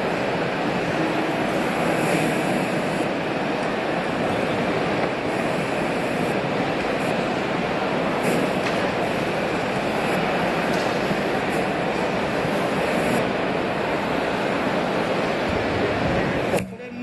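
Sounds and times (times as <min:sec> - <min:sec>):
exhibition hall background noise: 0:00.0 - 0:17.0.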